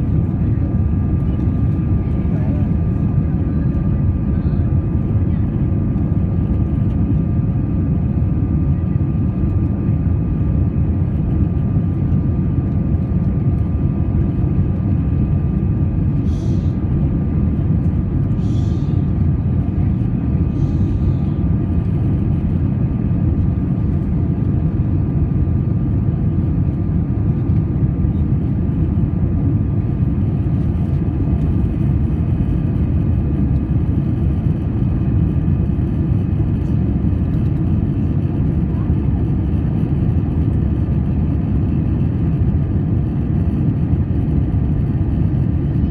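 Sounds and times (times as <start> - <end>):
airplane cabin engine drone: 0.0 - 45.9
faint constant whine: 0.0 - 45.9.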